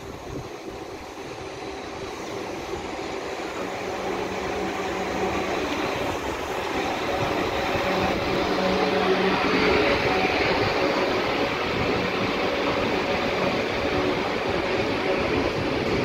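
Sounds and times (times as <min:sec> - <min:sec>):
steady low electric tone: 0:00.0 - 0:16.0
train motor hum: 0:00.0 - 0:16.0
wheel-on-rail noise: 0:00.0 - 0:16.0.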